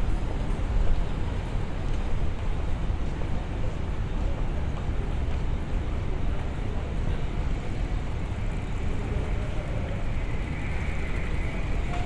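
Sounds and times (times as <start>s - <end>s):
city street traffic noise: 0.0s - 12.0s.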